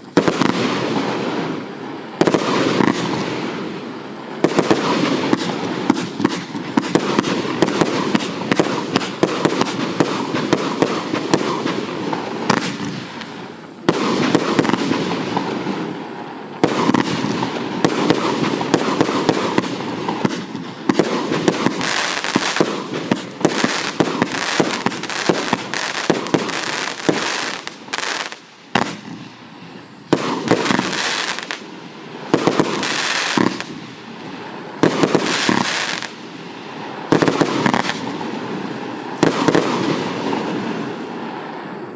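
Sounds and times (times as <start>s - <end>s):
fireworks cake firing: 0.0s - 41.9s.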